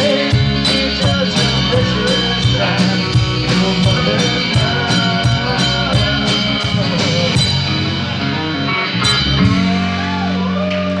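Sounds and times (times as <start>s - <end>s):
acoustic and electric guitars: 0.0s - 11.0s
drum kit: 0.0s - 11.0s
electric bass: 0.0s - 11.0s.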